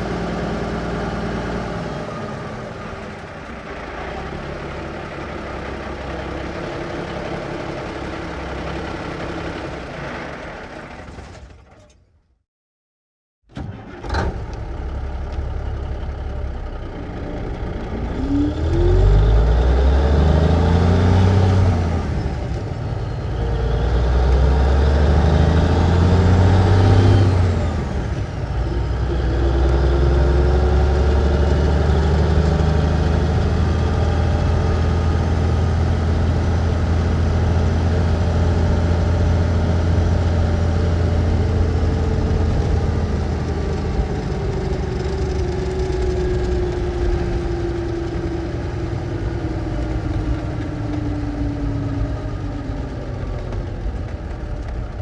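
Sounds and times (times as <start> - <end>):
truck engine revving through gears: 0.0 - 12.0, 13.5 - 55.0.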